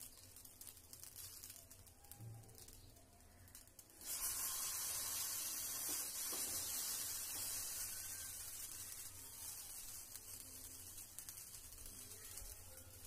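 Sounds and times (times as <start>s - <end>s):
batter sizzling in oil: 0.0s - 13.0s.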